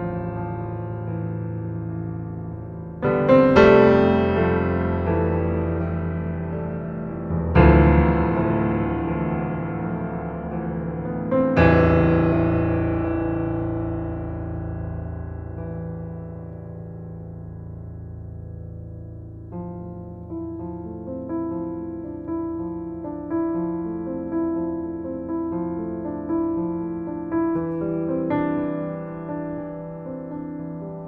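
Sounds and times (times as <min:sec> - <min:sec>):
slow piano chords: 0:00.0 - 0:31.0.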